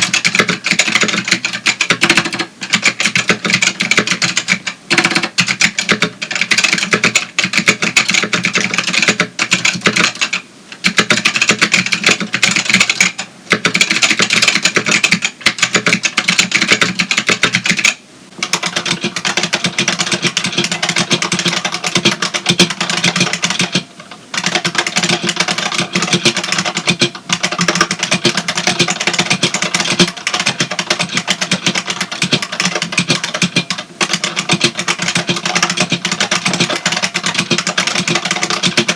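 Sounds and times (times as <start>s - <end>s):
buckling-spring keyboard typing: 0.0s - 38.9s
clicky keyboard typing: 0.0s - 38.9s.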